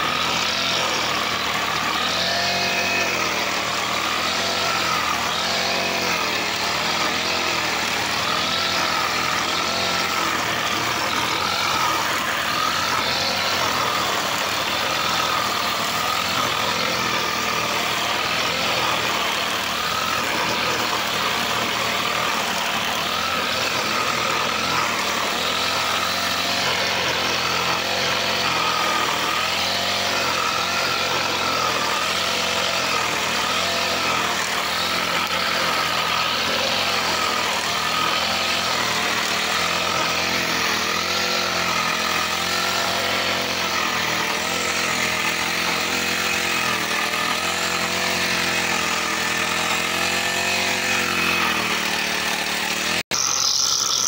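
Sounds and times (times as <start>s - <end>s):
brush cutter engine cutting grass: 0.0s - 54.0s.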